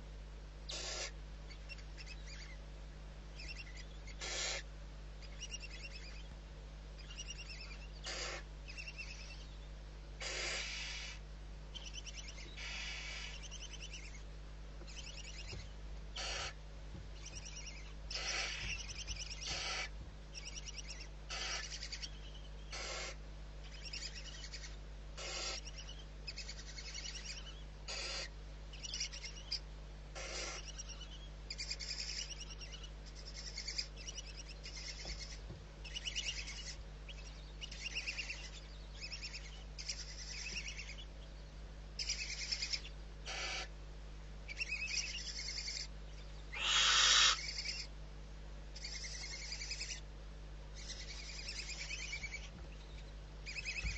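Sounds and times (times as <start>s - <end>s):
barn owl calling: 0.6s - 2.7s, 3.3s - 6.4s, 7.0s - 43.8s, 44.4s - 48.0s, 48.7s - 50.1s, 50.7s - 53.9s.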